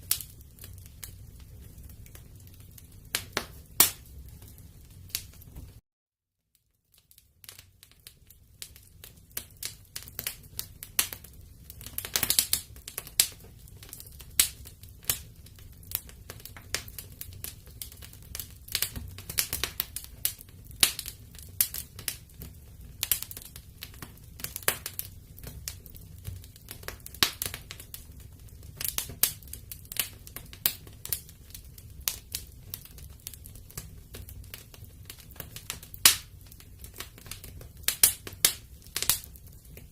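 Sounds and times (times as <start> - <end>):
wood fire crackling: 0.0 - 5.8, 6.6 - 39.9.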